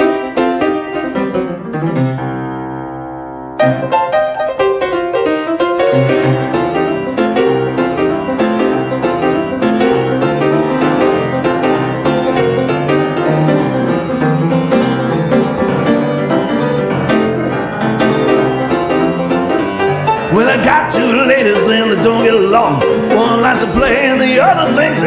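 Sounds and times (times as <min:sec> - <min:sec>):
blues piano: 0:00.0 - 0:25.0.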